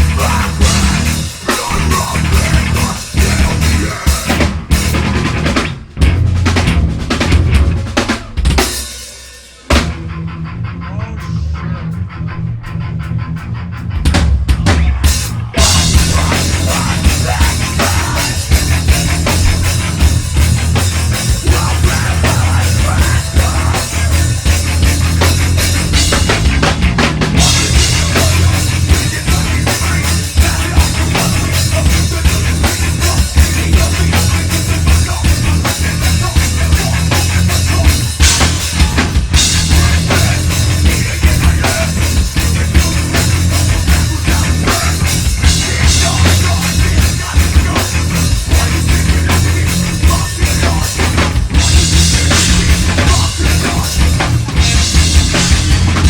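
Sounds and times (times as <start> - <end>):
drum kit: 0.0 - 56.0
heavy metal band playing live: 0.0 - 56.0.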